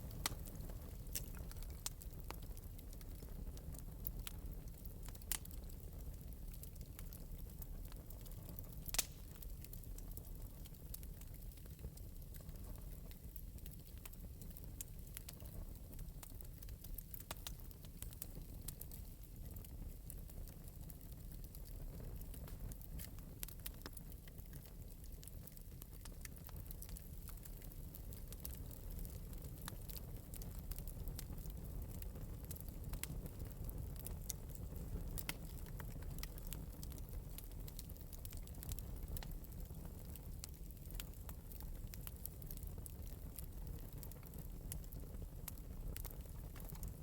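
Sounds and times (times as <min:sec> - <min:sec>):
fire crackles and pops: 0:00.0 - 0:47.0
wood fire rumble: 0:00.0 - 0:47.0.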